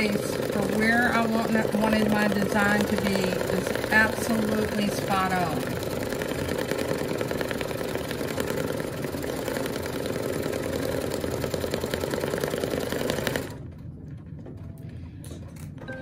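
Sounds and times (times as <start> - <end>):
embroidery machine stitching: 0.0 - 13.6.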